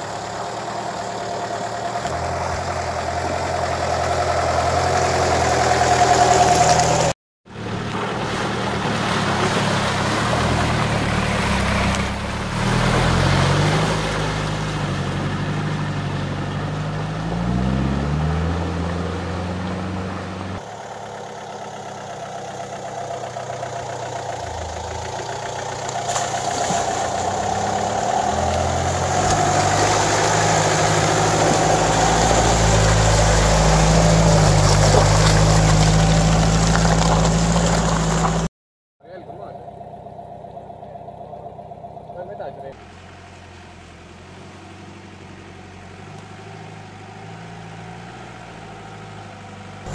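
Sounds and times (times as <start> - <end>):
truck engine in mud: 0.0 - 38.5, 39.2 - 49.9.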